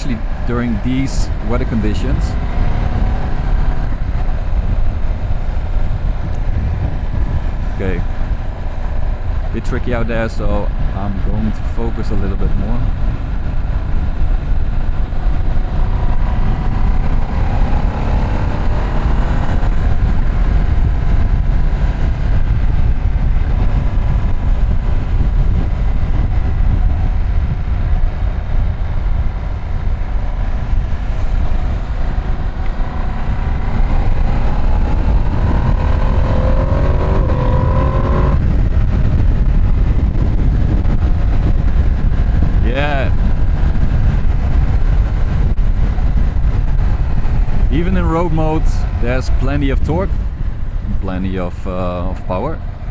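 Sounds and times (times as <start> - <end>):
motorcycle engine accelerating: 0.0 - 9.6, 12.8 - 51.1
heavy low rumble: 0.0 - 52.9.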